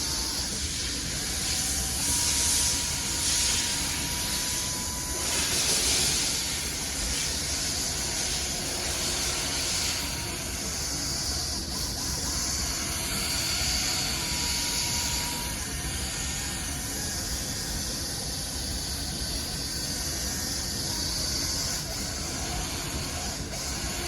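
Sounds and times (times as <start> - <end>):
cordless buffer hissing on plastic: 0.0 - 24.0.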